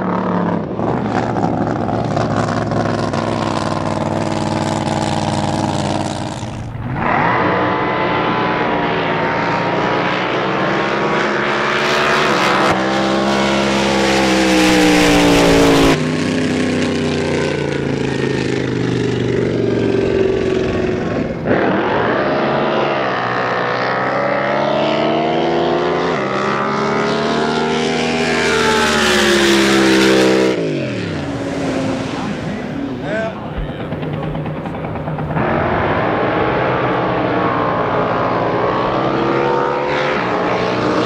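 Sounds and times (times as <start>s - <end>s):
boat engines at high revs: 0.0s - 41.0s.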